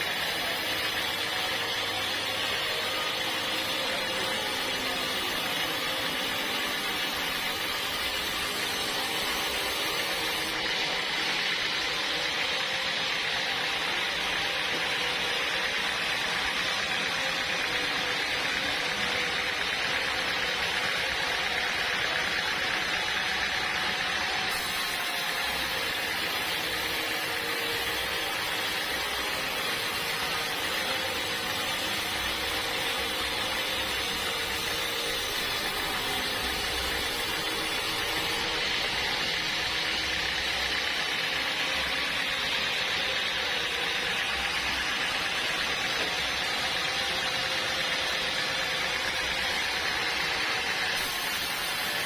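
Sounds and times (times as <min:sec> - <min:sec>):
bandsaw sawmill hissing: 0:00.0 - 0:52.0.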